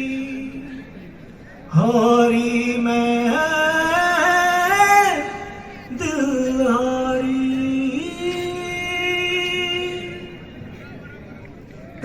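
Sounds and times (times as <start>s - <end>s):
man singing long notes: 0.0s - 1.0s, 1.7s - 10.7s.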